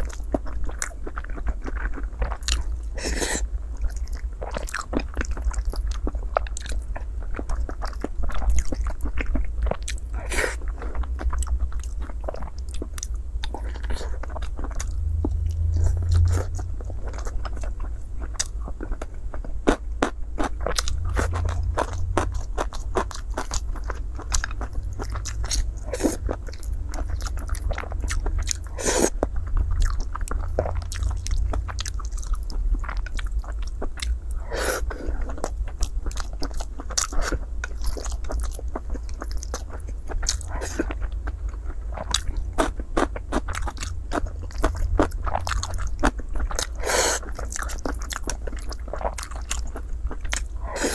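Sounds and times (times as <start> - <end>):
low steady hum: 0.0 - 50.9
person chewing food: 0.0 - 50.9.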